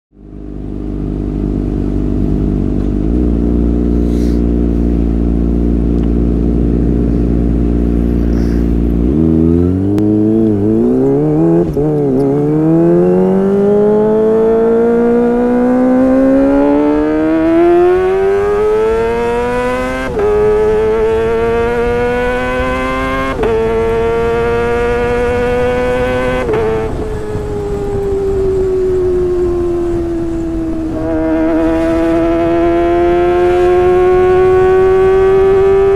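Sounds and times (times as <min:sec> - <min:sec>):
motorcycle engine idling and revving: 0:00.1 - 0:35.9.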